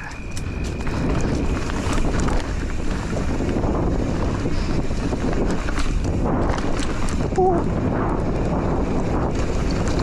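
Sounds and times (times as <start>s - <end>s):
bike clicks and rattles: 0.0s - 10.0s
tyre rumble: 0.0s - 10.0s
wind buffeting microphone: 0.0s - 10.0s.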